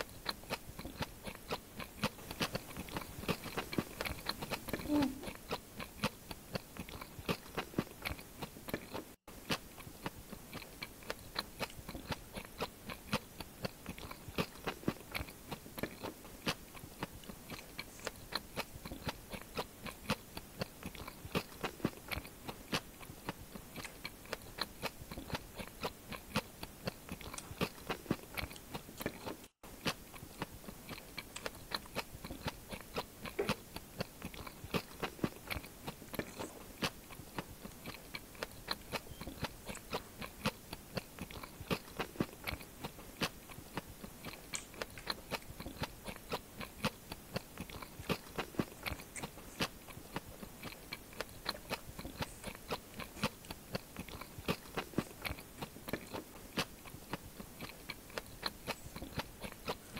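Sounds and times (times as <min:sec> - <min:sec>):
chewing crispy food: 0:00.0 - 0:59.9
wet mouth clicks: 0:00.0 - 0:59.9.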